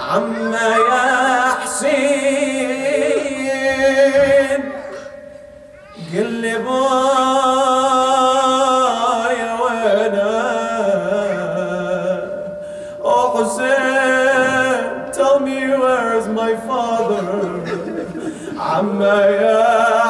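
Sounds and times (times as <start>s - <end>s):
man chanting: 0.0s - 5.2s, 5.8s - 12.4s, 13.1s - 20.0s.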